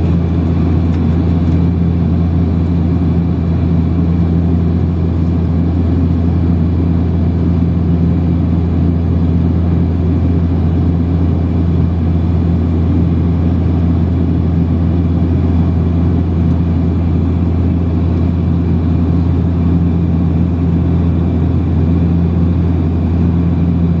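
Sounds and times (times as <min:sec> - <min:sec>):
airliner engine drone in cabin: 0:00.0 - 0:24.0.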